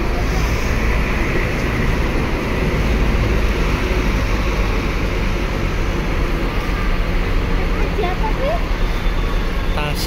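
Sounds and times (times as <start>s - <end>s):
diesel bus engine rumbling: 0.0s - 10.0s.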